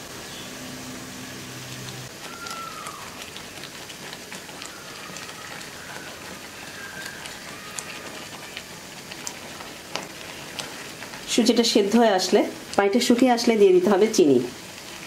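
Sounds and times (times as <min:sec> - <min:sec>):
food simmering in a pan: 0:00.0 - 0:15.0
spatula stirring: 0:01.7 - 0:15.0.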